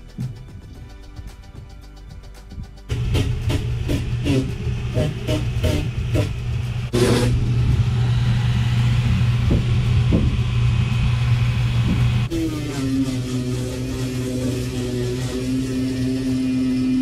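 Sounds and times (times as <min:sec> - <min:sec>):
angle grinder grinding fibreglass: 0:02.9 - 0:17.0.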